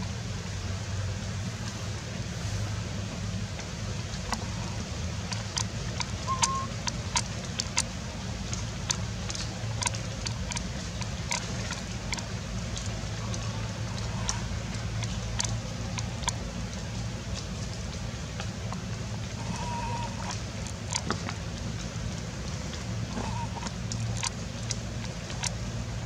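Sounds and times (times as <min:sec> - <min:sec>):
low forest hum: 0:00.0 - 0:26.0
sharp ticks and taps: 0:03.6 - 0:19.1, 0:20.3 - 0:26.0.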